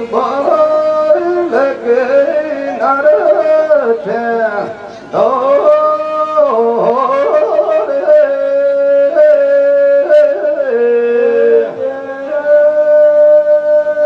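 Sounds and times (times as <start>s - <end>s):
folk singing voice: 0.0s - 14.0s.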